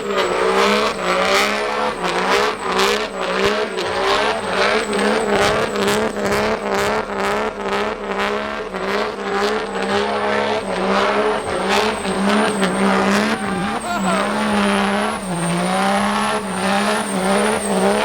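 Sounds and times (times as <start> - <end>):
wavering squealing tone: 0.0 - 7.0, 9.2 - 18.0
diesel truck engine running hard: 0.0 - 18.0.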